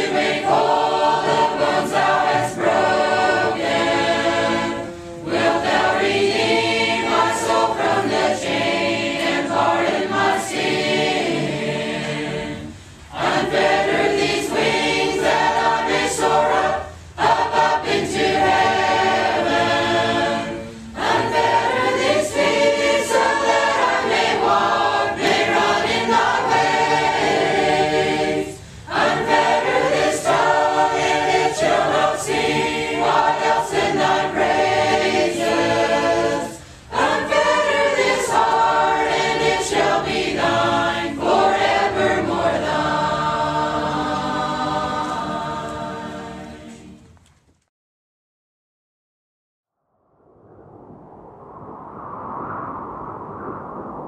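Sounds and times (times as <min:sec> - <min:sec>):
choir singing a hymn: 0:00.0 - 0:47.2.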